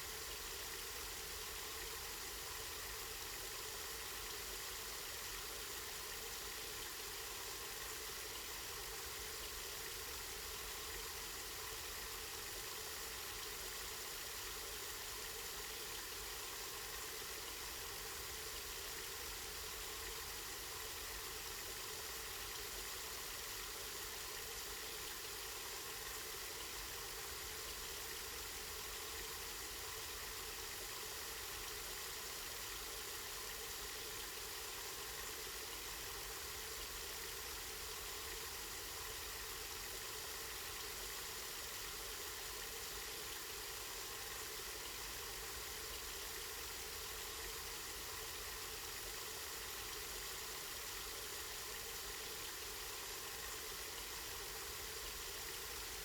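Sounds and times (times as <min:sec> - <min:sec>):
spring water flowing and splashing: 0:00.0 - 0:56.0.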